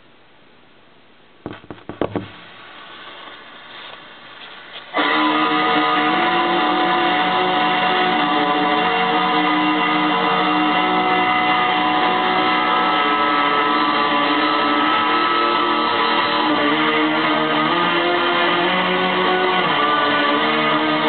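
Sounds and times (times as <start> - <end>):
black metal from a record: 1.4 - 21.0.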